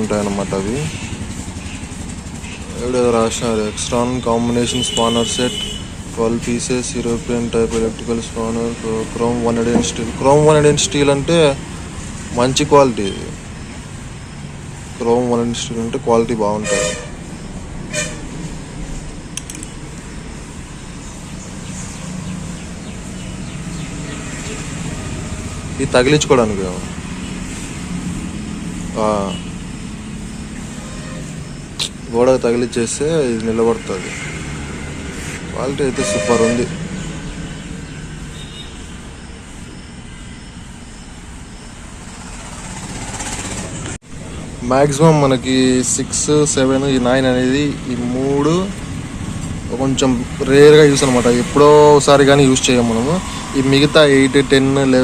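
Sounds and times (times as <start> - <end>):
background traffic: 0.0 - 55.0.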